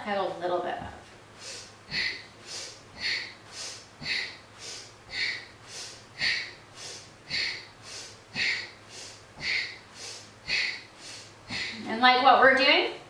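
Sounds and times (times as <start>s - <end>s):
woman breathing forcefully through nose: 1.3s - 11.9s.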